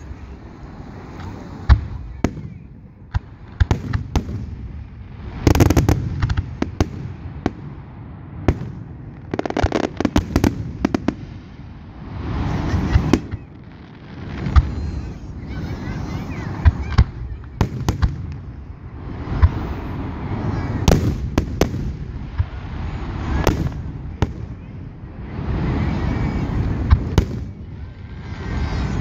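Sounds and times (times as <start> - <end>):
rapid firework crackling: 0.0 - 29.0.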